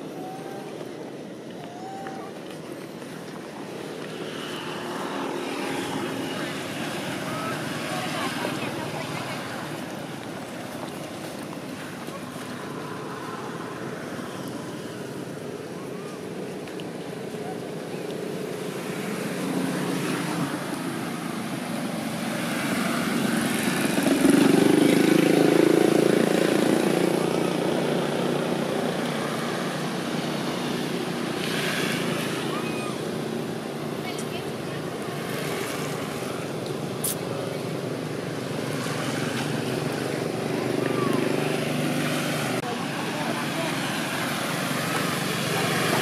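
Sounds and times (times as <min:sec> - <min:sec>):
outdoor background noise: 0:00.0 - 0:46.0.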